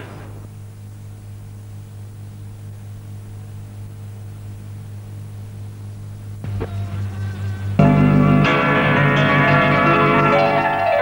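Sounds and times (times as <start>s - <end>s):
low electrical hum: 0.0s - 11.0s
tape hiss: 0.0s - 11.0s.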